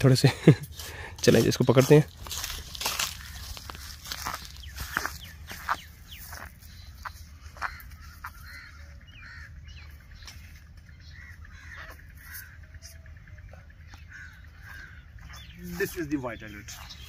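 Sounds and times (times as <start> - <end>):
birds calling: 0.0 - 17.0
steady low rumble: 0.0 - 17.0.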